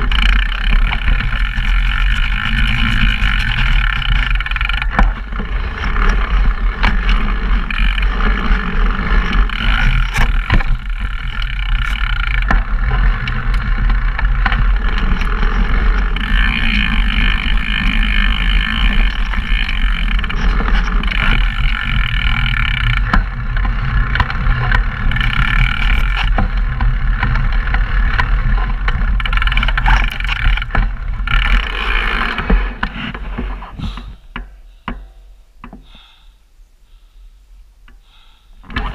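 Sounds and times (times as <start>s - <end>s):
bike clattering over rough ground: 0.0s - 35.8s, 38.6s - 38.9s.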